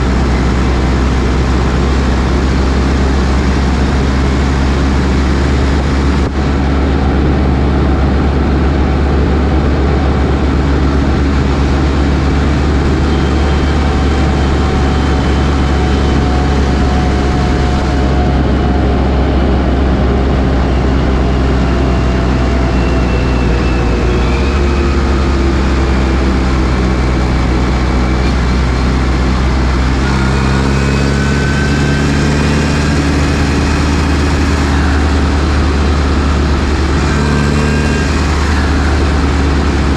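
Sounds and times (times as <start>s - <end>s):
faint whine: 0.0s - 39.9s
tractor diesel engine running: 0.0s - 39.9s.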